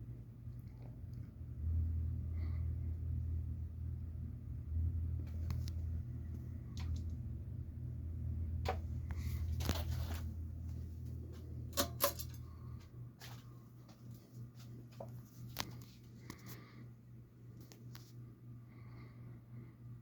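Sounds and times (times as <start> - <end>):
ceiling fan motor humming: 0.0 - 20.0.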